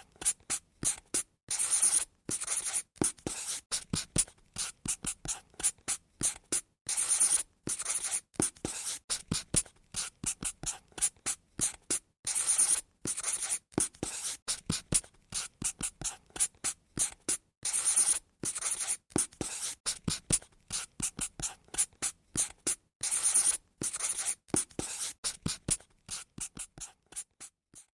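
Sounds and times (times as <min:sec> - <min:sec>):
pen scratching on paper: 0:00.2 - 0:27.9.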